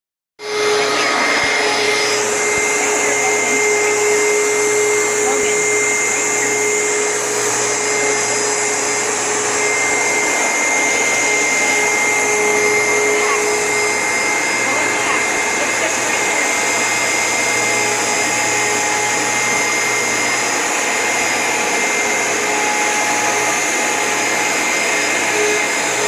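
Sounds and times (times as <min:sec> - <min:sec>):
vacuum cleaner running: 0:00.4 - 0:26.0.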